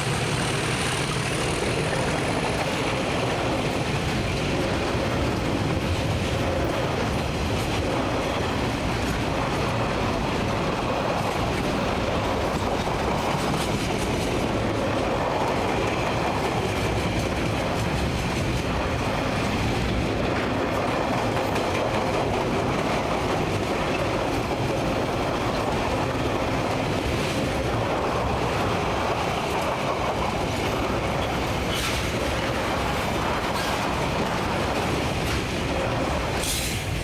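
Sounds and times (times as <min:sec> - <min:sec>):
clickety-clack over rail joints: 0:00.0 - 0:37.0
freight train wheels rumbling: 0:00.0 - 0:37.0.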